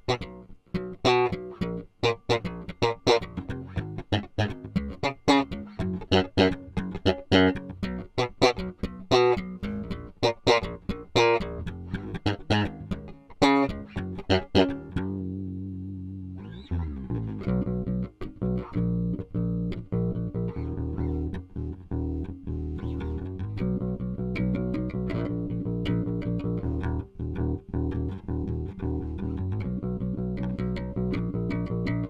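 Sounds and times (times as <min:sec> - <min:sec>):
electric bass playing: 0:00.0 - 0:32.0.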